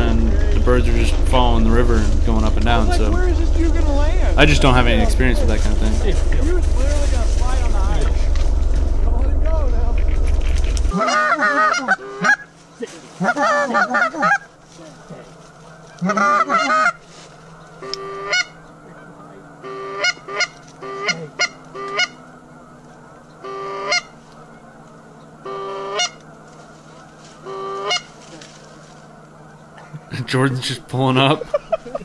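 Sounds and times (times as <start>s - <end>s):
geese honking: 0.0s - 32.0s.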